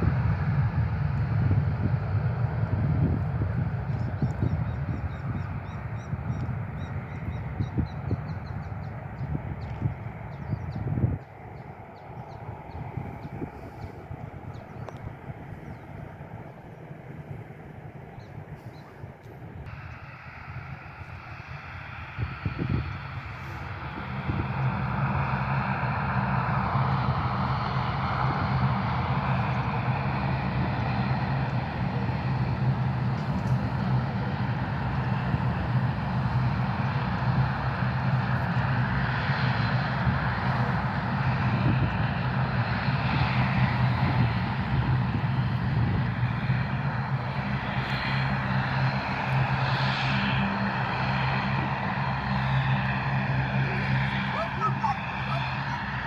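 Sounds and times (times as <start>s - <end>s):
airplane engines running: 0.0s - 56.0s.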